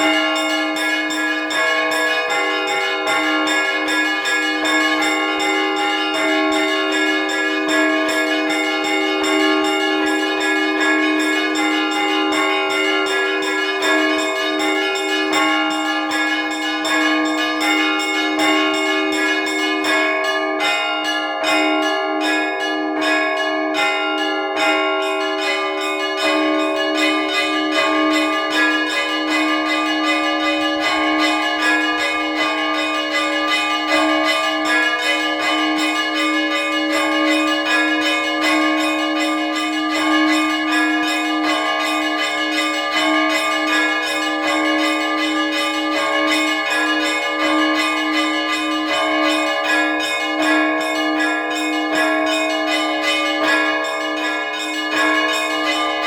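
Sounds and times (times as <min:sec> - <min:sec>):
rapid peal of small bells: 0:00.0 - 0:56.0
repeated lower bell: 0:00.0 - 0:56.0.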